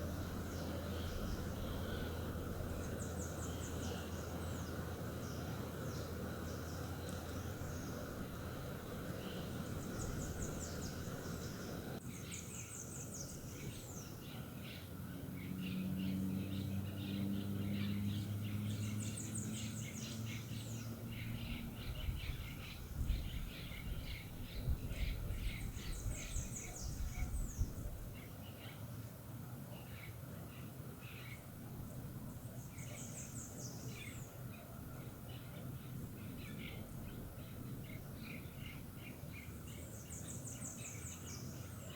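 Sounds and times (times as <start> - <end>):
birds singing and chirping: 0.0 - 28.8, 32.3 - 41.9
low steady hum: 0.0 - 41.9.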